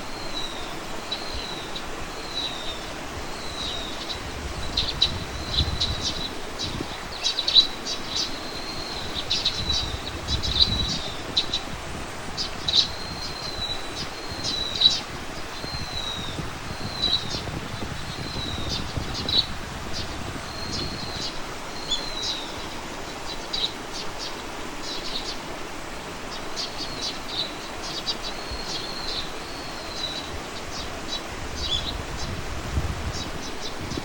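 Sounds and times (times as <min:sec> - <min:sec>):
songbird calling: 0:00.0 - 0:25.5, 0:26.1 - 0:32.4.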